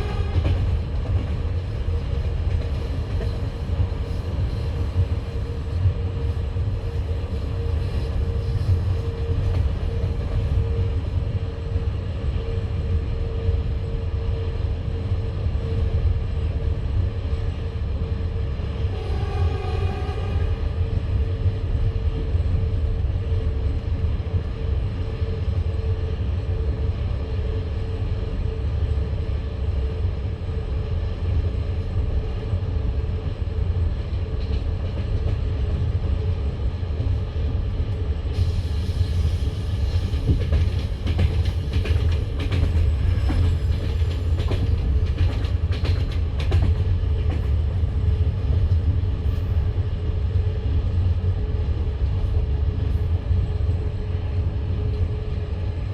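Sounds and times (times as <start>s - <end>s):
train wheels rumbling: 0.0s - 55.9s.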